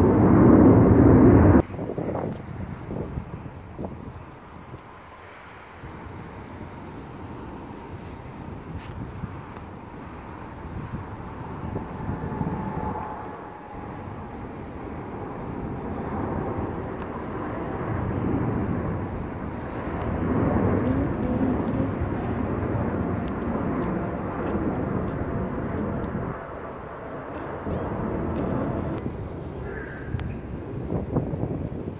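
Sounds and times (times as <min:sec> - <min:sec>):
jet engines on takeoff: 0:00.0 - 0:31.9.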